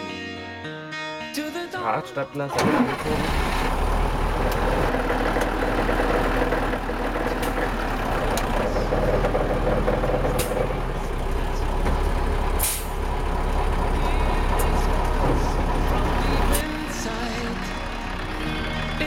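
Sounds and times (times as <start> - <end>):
winch engine running: 2.6 - 19.0.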